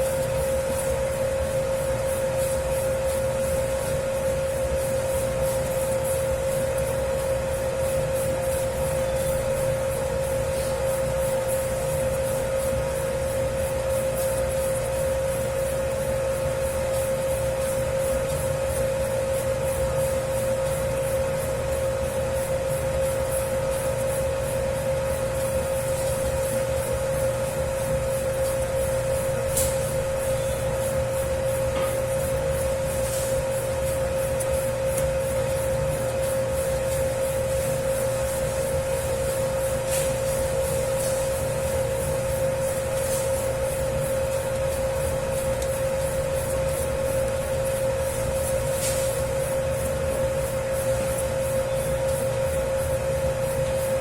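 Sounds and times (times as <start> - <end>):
dough kneading machine motor hum: 0.0 - 54.0
dough swishing: 0.0 - 54.0.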